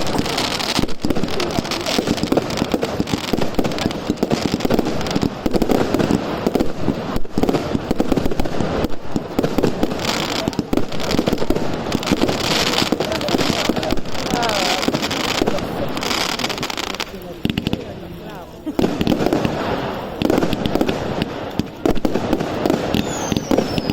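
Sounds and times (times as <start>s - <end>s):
fireworks crackling and banging: 0.0s - 23.9s.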